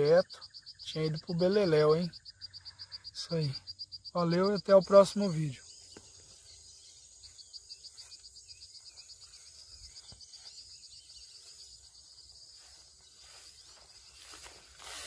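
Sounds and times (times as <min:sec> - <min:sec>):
high insect hum: 0:00.0 - 0:15.0
insects chirping: 0:00.0 - 0:15.0.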